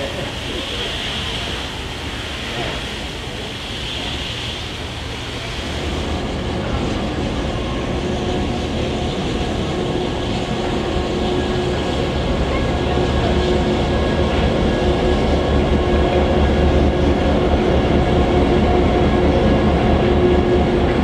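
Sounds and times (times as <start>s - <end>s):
steam hiss: 0.0s - 21.0s
train rolling rumble: 0.0s - 21.0s.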